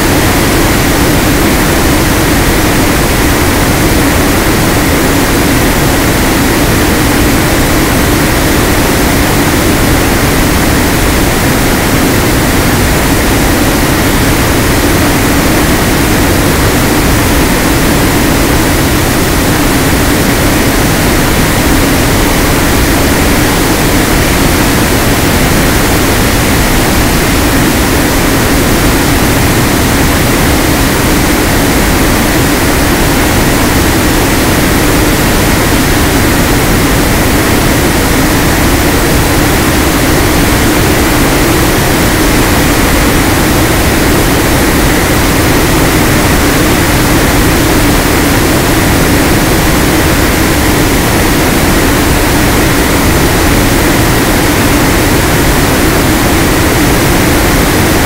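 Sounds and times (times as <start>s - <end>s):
loud steady hiss: 0.0s - 58.0s
low steady drone: 0.0s - 58.0s.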